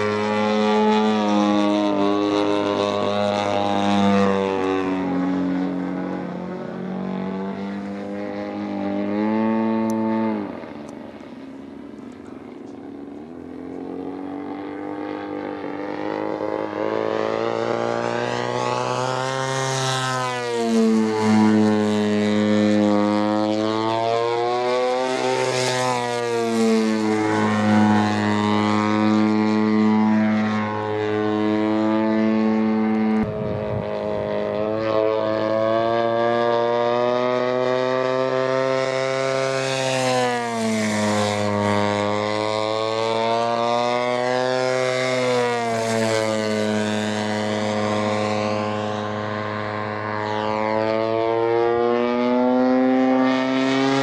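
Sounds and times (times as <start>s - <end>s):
model plane propeller engine droning: 0.0s - 54.0s.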